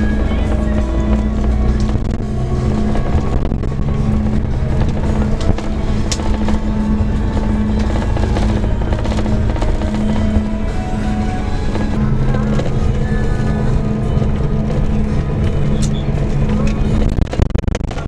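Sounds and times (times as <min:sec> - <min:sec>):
coach running and road noise: 0:00.0 - 0:18.0
music playing: 0:00.0 - 0:18.0.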